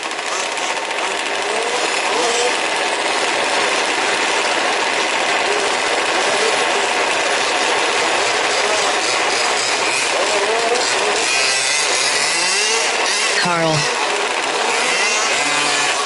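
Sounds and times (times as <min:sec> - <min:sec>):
engine revving: 0:00.0 - 0:04.8, 0:05.4 - 0:16.0
small two-stroke engines buzzing: 0:00.0 - 0:16.0.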